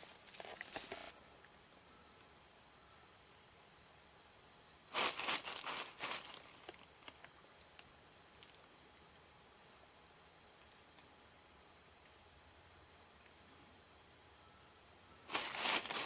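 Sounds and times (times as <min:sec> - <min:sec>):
high insect pulse: 0:00.0 - 0:16.0
insects ringing: 0:00.0 - 0:16.0.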